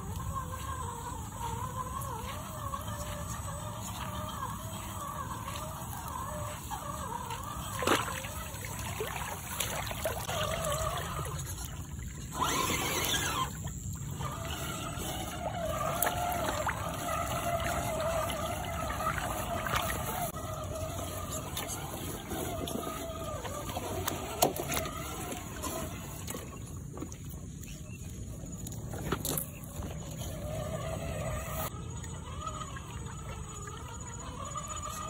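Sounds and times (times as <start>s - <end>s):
water splashing and sloshing: 0.0s - 35.0s
wavering motor whine: 0.0s - 35.0s.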